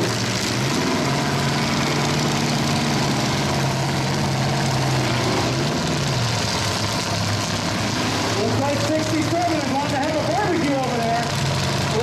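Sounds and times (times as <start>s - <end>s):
truck engines running: 0.0s - 12.0s.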